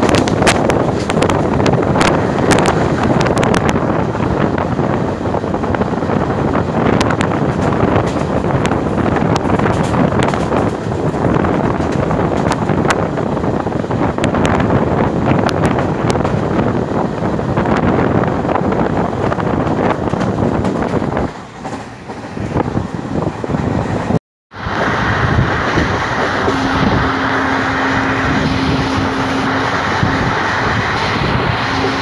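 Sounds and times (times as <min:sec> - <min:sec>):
train running at speed: 0:00.0 - 0:32.0
wind rushing over microphone: 0:00.0 - 0:32.0.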